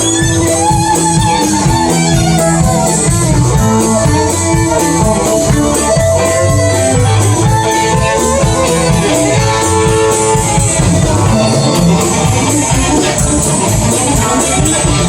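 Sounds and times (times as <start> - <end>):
country band instrumental: 0.0 - 15.0
lead guitar: 0.0 - 15.0.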